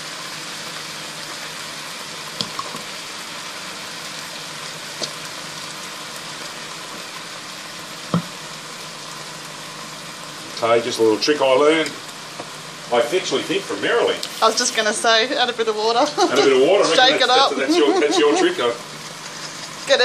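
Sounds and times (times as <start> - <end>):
food sizzling in a skillet: 0.0 - 20.0.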